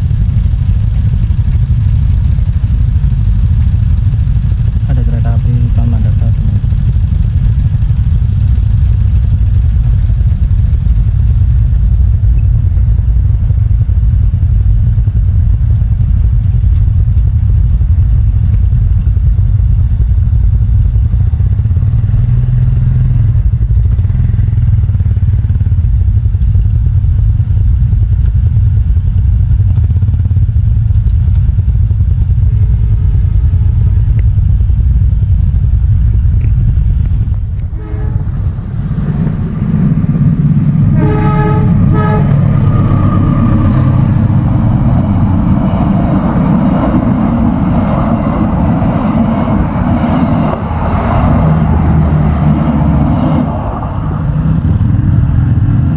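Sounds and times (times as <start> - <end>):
motorcycle engines idling: 0.0 - 55.9.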